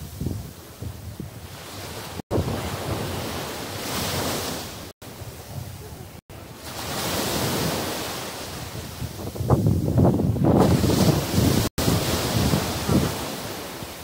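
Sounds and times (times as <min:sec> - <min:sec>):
small waves breaking on beach: 0:00.0 - 0:14.0
wind on microphone: 0:00.0 - 0:14.0.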